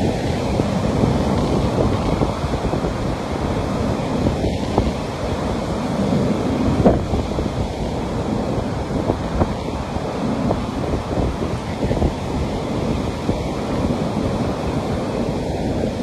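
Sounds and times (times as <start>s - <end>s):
sea waves washing on beach: 0.0s - 16.0s
wind rumbling on microphone: 0.0s - 16.0s.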